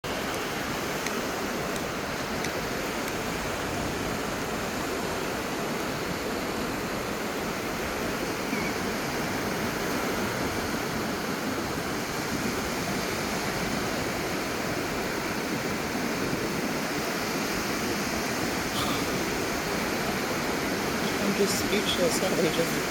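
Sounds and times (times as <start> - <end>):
waves washing onto beach: 0.0 - 22.9.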